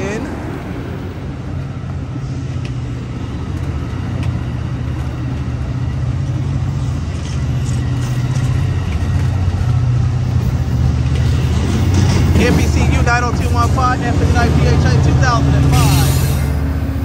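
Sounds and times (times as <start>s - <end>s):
train rumbling and humming: 0.0s - 17.0s.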